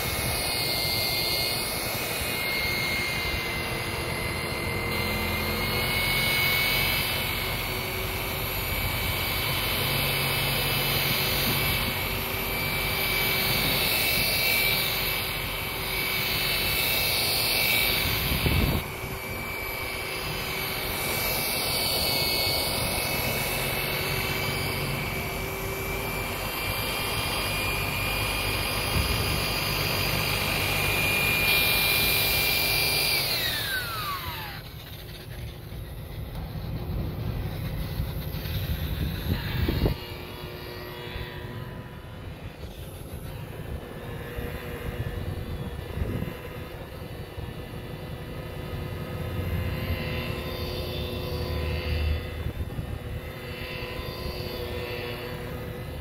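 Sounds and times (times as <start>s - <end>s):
rotary buffer motor whine: 0.0s - 56.0s.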